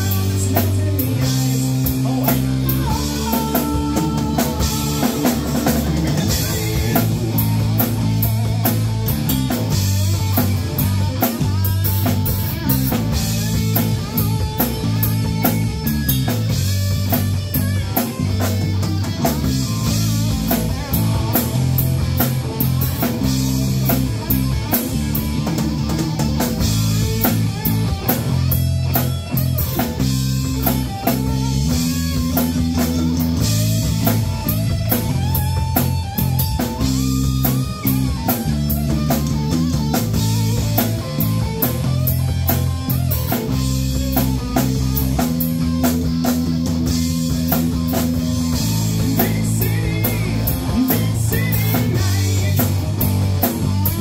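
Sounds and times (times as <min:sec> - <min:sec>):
bass guitar: 0:00.0 - 0:54.0
drum kit with cymbal hits: 0:00.0 - 0:54.0
electric guitar lead lines: 0:00.0 - 0:54.0.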